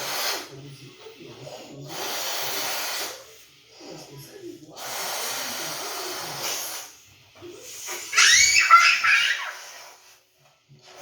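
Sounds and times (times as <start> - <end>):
air hissing from balloon neck: 0.0 - 4.0, 4.7 - 11.0.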